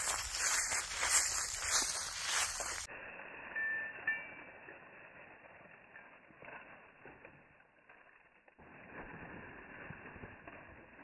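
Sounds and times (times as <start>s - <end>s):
feet shuffling through dry leaves: 0.0s - 11.0s.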